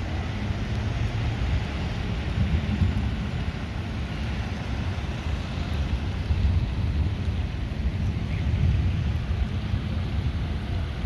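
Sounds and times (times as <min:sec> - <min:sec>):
low uneven rumble: 0:00.0 - 0:11.0
rain on flooded street: 0:00.0 - 0:11.0.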